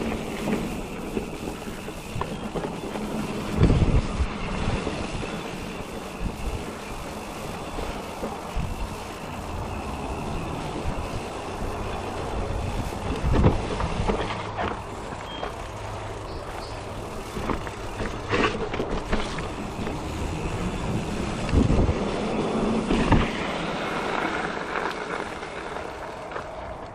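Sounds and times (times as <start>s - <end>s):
bike knocking and rattling: 0.0s - 26.9s
tyre and wind noise: 0.0s - 26.9s.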